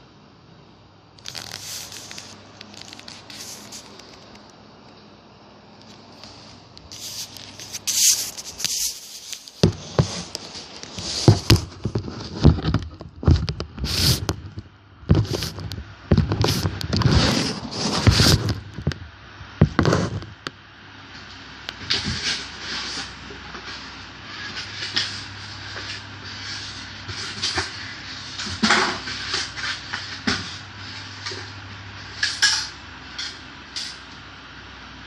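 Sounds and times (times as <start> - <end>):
packaging rustling and scraping: 1.2 - 4.5, 5.8 - 19.0, 19.6 - 20.4, 21.8 - 34.0.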